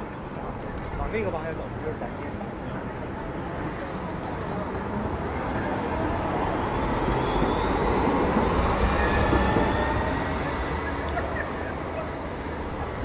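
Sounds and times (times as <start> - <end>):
rail vehicle rumble passing: 0.0 - 13.0.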